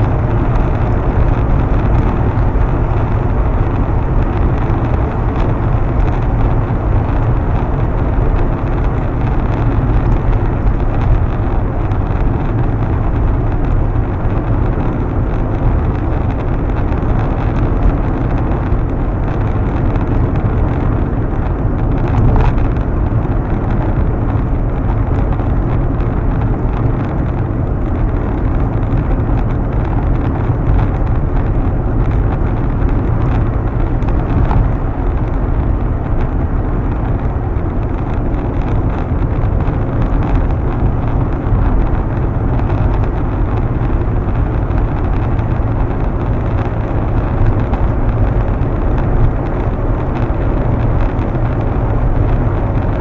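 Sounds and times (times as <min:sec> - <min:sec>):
car cabin road noise: 0:00.0 - 0:53.0.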